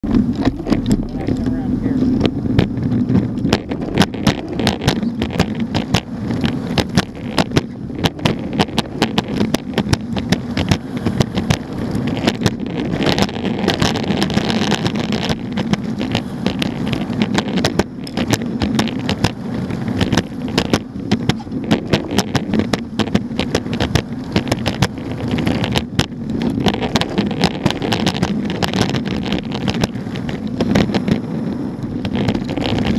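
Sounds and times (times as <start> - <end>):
skateboard wheels rolling on concrete: 0.0 - 32.9.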